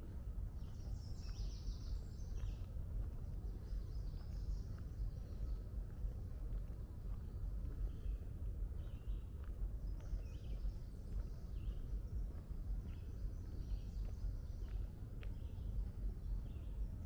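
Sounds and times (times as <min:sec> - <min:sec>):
constant low rumble: 0:00.0 - 0:17.0
songbirds chirping: 0:00.0 - 0:17.0.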